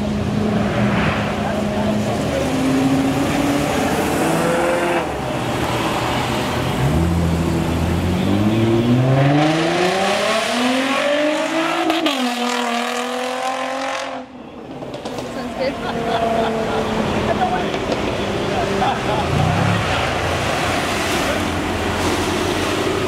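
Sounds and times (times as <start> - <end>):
car engines accelerating: 0.0 - 23.0.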